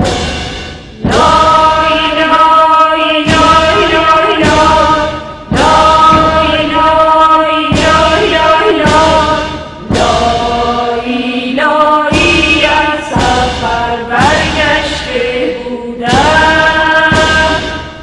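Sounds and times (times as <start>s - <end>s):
choral chanting: 0.0s - 18.0s
deep drum strokes: 0.0s - 18.0s.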